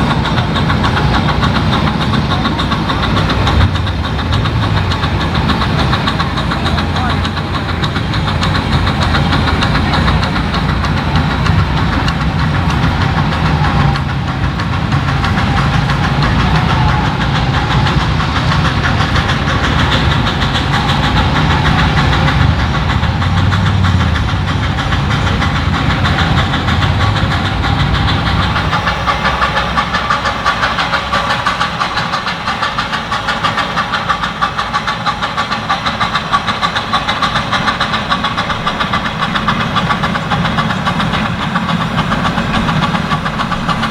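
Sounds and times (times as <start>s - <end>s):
steam hiss: 0.0s - 43.9s
steam locomotive chuffing: 0.0s - 43.9s
train rumble: 0.0s - 43.9s.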